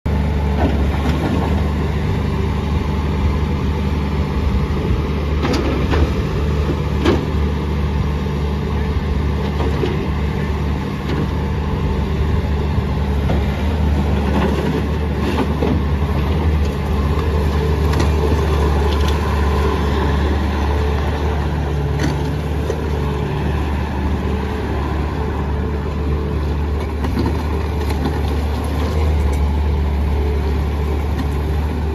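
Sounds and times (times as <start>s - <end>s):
loader diesel engine running: 0.1s - 31.9s.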